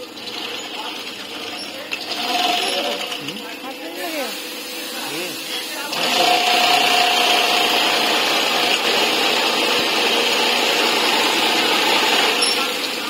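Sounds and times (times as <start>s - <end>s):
sewing machine running: 0.0s - 4.2s, 5.0s - 13.0s.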